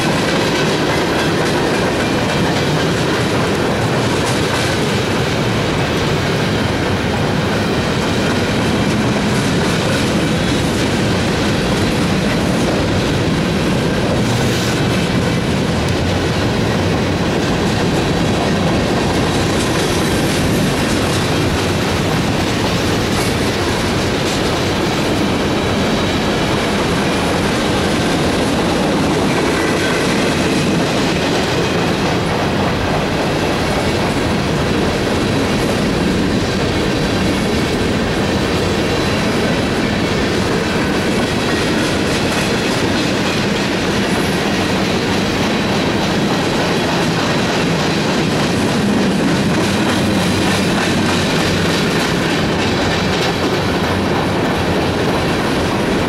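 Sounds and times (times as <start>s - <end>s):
clickety-clack over rail joints: 0.0s - 56.0s
train wheels rumbling on rail: 0.0s - 56.0s.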